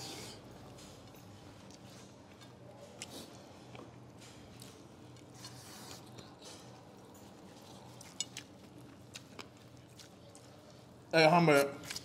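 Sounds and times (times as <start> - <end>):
low room hum: 0.0 - 12.0
people eating with hands: 0.0 - 12.0.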